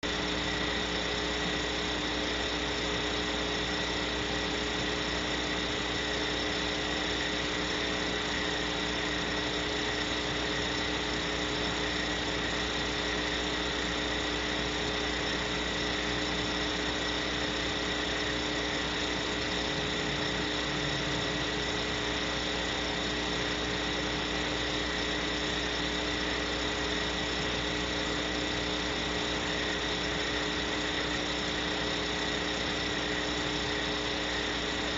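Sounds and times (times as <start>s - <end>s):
constant humming tones: 0.0s - 34.9s.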